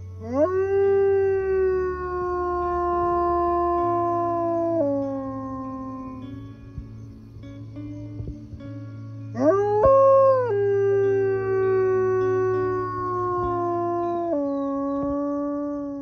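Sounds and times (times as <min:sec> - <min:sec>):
wolf howling: 0:00.2 - 0:06.5, 0:09.4 - 0:16.0.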